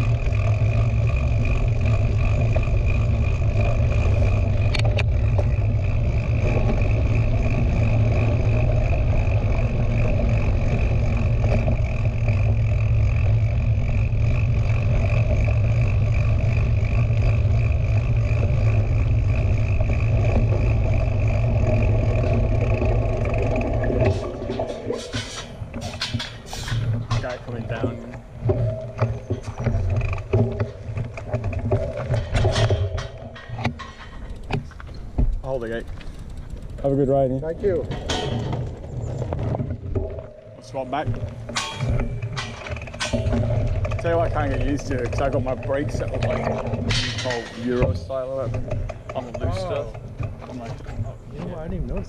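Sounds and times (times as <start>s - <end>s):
steady hum: 0.0s - 52.0s
tyres rolling on dirt trail: 0.0s - 52.0s.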